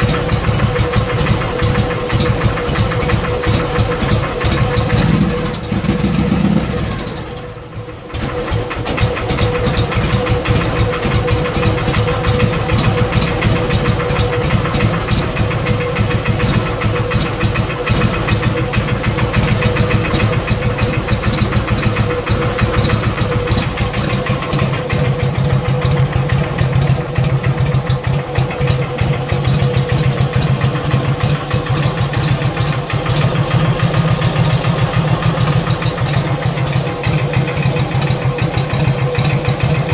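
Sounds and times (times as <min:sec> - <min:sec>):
motorcycle engine idling with knock: 0:00.0 - 0:39.9.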